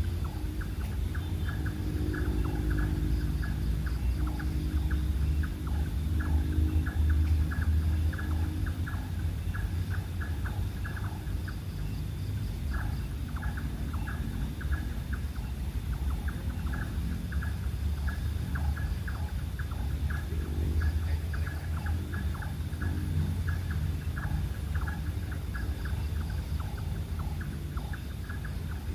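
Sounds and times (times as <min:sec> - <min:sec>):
steady low rumble: 0:00.0 - 0:28.9.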